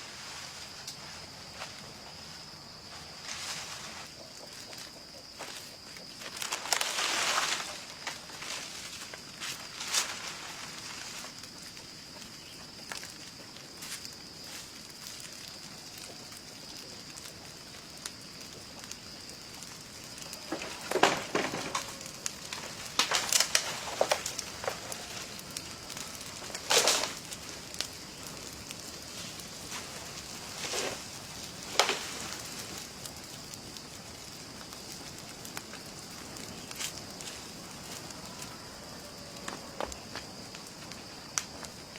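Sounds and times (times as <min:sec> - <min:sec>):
crackling and rustling: 0:00.0 - 0:41.9.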